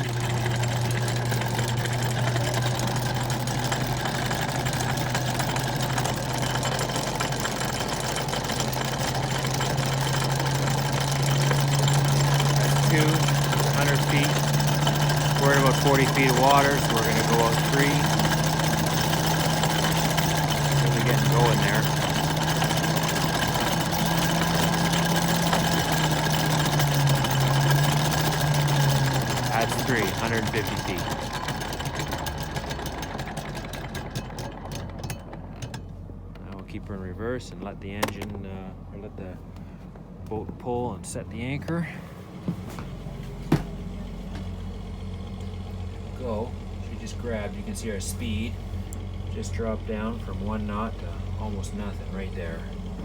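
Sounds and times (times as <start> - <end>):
boat engine running at low revs: 0.0 - 53.0.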